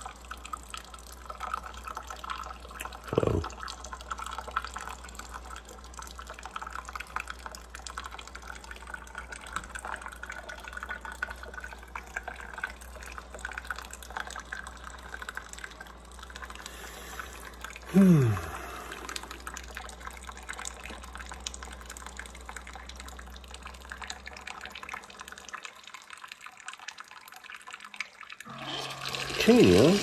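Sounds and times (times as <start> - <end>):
liquid trickling and dripping: 0.0 - 30.0.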